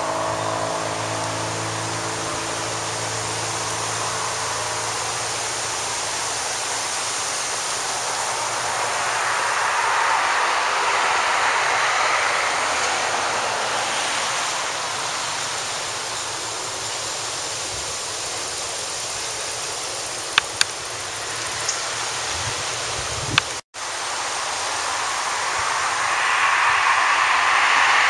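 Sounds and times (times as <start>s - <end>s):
road traffic rushing: 0.0s - 28.0s.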